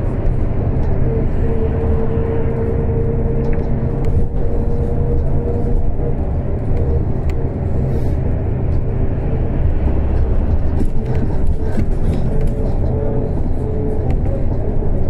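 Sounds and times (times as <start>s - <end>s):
humming whine: 0.0s - 15.0s
trolleybus low rumble: 0.0s - 15.0s.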